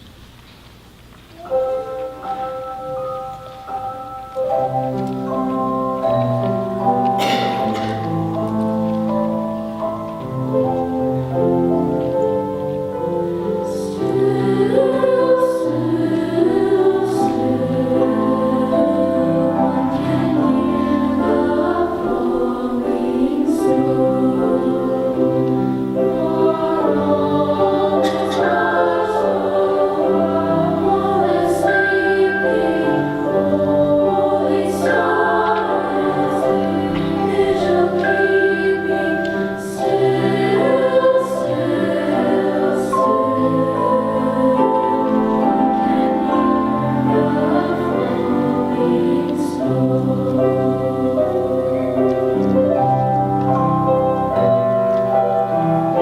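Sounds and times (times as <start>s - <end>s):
women's chorus singing: 6.0s - 8.2s, 10.7s - 56.0s.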